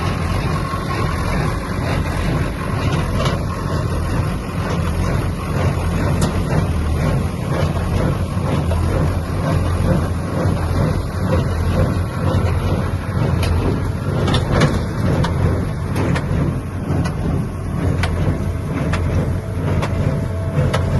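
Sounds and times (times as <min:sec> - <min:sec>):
tractor diesel engine droning: 0:00.0 - 0:20.9.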